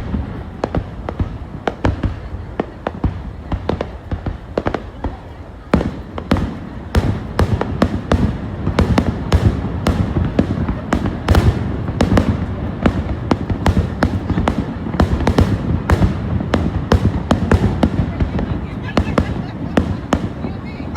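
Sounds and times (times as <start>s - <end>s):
fireworks bangs and cracks: 0.0s - 20.9s.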